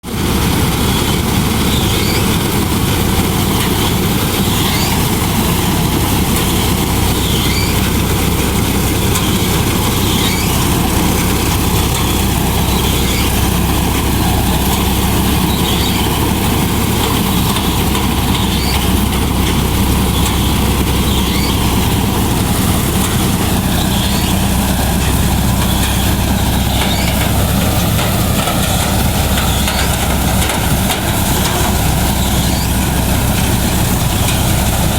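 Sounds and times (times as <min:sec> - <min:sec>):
tractor engine running: 0:00.0 - 0:34.9
harvester mechanical din: 0:00.1 - 0:34.9.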